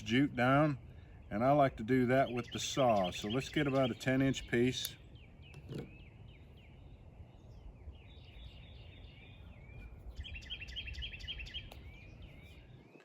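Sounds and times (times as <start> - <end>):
small birds chirping: 0.0 - 13.0
bird trill: 2.2 - 12.8.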